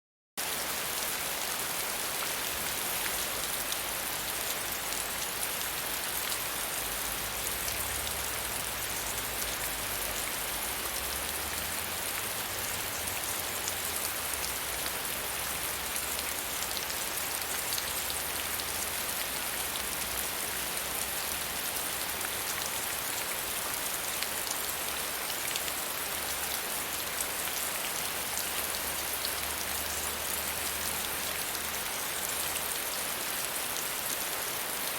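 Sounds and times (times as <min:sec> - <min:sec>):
gentle rain falling: 0:00.4 - 0:34.9.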